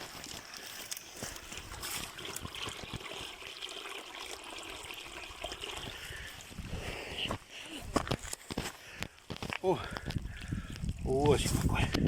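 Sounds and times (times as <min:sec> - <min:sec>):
stream trickling and gurgling: 0:00.0 - 0:12.0.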